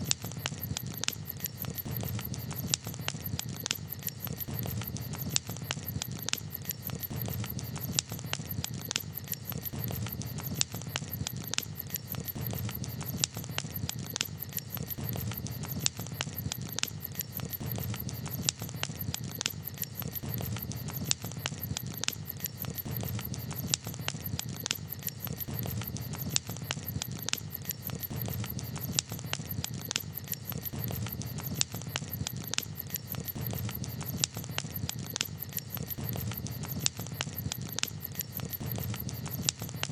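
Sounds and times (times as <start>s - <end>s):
campfire pops and snaps: 0.0s - 39.9s
fire low rumble: 0.1s - 39.9s.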